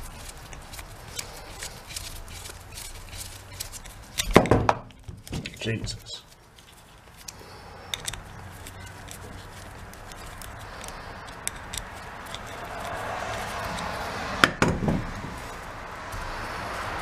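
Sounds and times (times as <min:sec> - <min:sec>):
screwdriver clicks and scrapes: 0:00.0 - 0:06.0, 0:06.6 - 0:16.3
steady background noise: 0:00.0 - 0:17.0.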